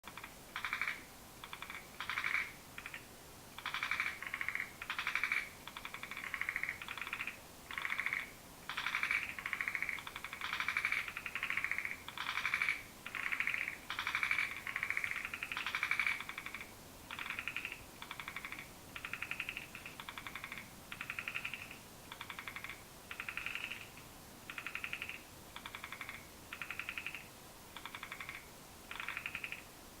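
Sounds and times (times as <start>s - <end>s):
frogs calling with buzzing rasps: 0.1s - 29.8s.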